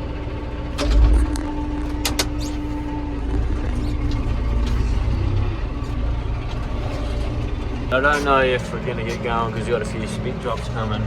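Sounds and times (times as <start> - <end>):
steady whine: 0.0 - 11.0
vehicle engine rumbling: 0.0 - 11.0.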